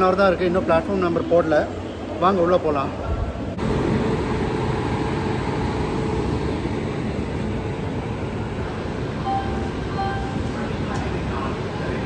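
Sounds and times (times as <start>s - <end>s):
generators running: 0.0s - 12.0s
train rumbling at platform: 0.0s - 12.0s.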